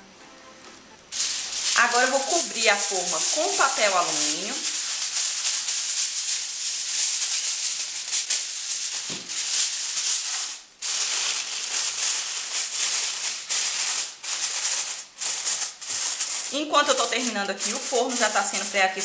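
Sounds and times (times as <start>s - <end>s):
aluminium foil crinkling: 1.0s - 19.0s.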